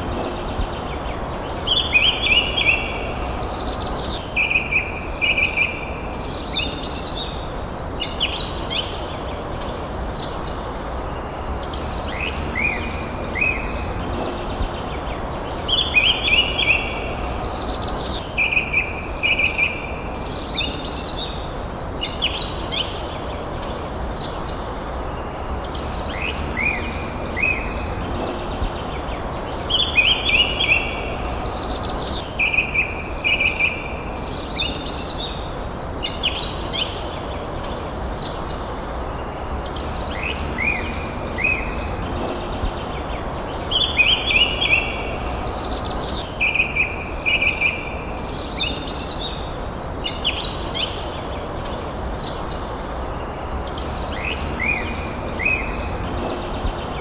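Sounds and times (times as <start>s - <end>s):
birds chirping and singing: 0.0s - 57.0s
low background noise: 0.0s - 57.0s.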